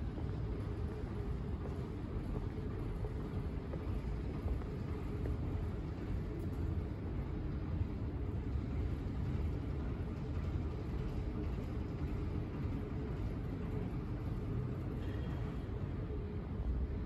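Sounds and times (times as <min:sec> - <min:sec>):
airport terminal low rumble: 0:00.0 - 0:17.0.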